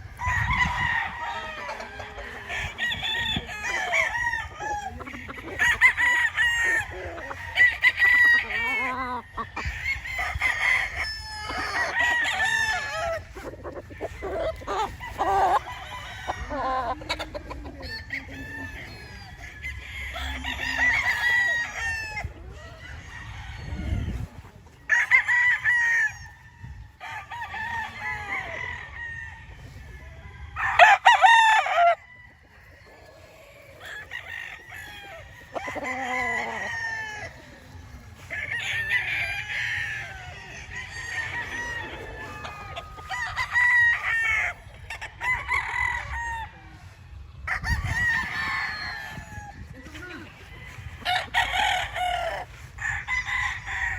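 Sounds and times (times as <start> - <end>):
roosters crowing: 0.0 - 53.9.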